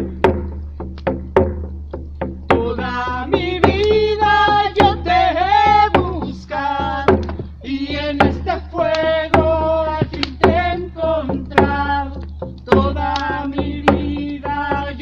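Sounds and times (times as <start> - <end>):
steady drum strokes: 0.0 - 15.0
voices singing a chant: 2.5 - 15.0.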